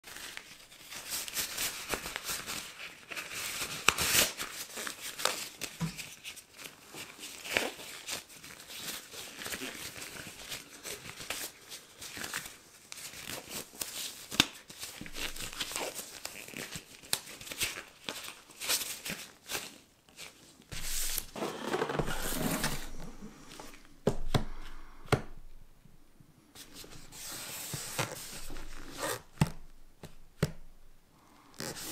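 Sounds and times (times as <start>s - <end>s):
rubber gloves crinkling: 0.1s - 31.9s.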